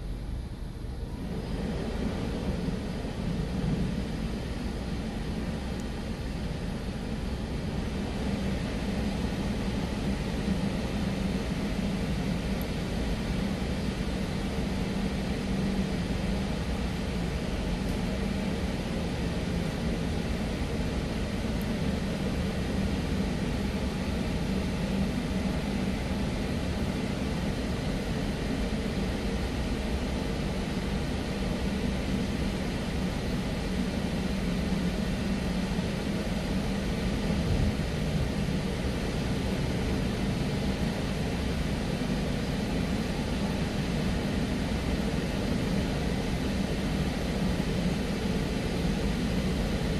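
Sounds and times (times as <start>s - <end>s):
car wash spray and air rushing: 0.0s - 49.9s
low hum: 0.0s - 49.9s.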